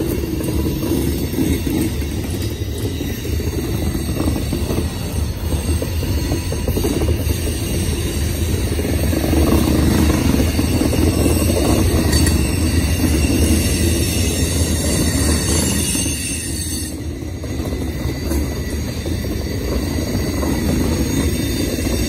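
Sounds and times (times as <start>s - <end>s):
freight train wheels rumbling on track: 0.0s - 22.0s.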